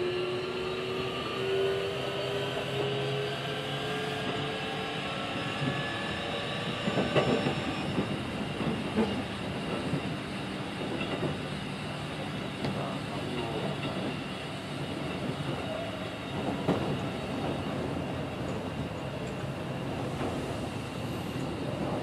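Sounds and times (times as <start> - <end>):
train rumble: 0.0 - 22.0.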